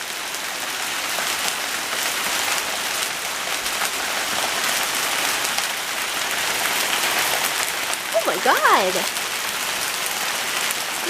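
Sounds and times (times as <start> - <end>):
heavy hail pattering: 0.0 - 11.0.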